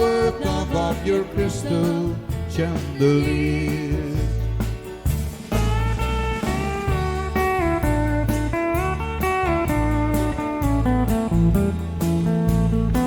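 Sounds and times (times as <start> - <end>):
electric bass: 0.0 - 13.0
pedal steel guitar sliding notes: 0.0 - 13.0
steady drum beat: 0.0 - 13.0.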